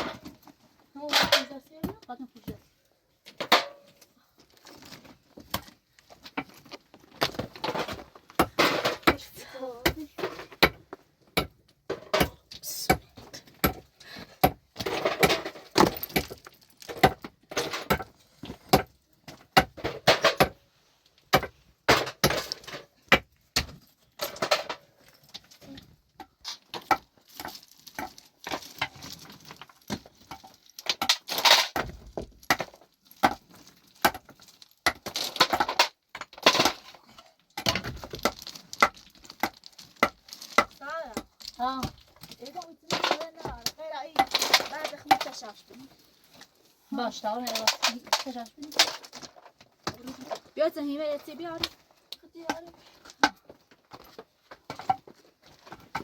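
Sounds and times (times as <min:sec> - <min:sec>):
rubble scraping and clattering: 0:00.0 - 0:56.0
stones knocking and clinking: 0:03.3 - 0:20.6, 0:21.2 - 0:46.5, 0:51.5 - 0:56.0.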